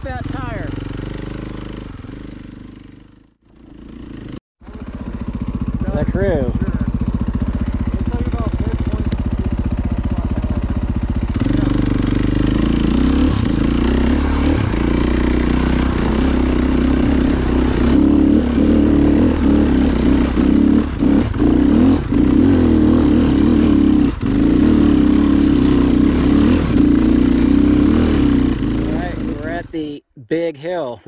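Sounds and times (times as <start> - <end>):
motorcycle engine under throttle: 0.0 - 29.8.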